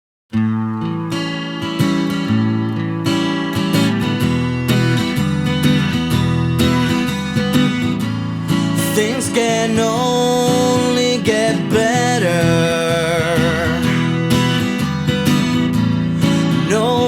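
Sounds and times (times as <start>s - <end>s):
acoustic guitar strumming chords: 0.3s - 17.0s.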